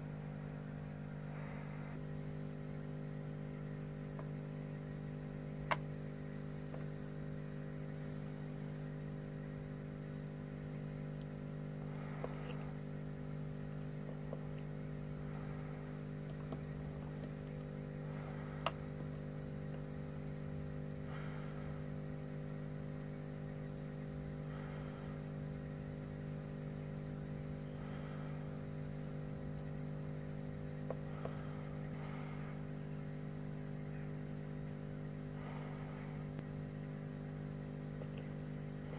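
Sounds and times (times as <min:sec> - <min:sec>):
steady low pitched hum: 0:00.0 - 0:38.9.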